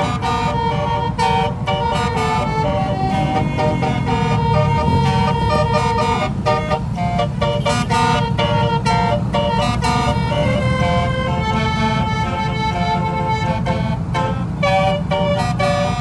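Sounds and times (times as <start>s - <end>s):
melody of steady tones: 0.0s - 16.0s
truck engine rumbling: 0.0s - 16.0s.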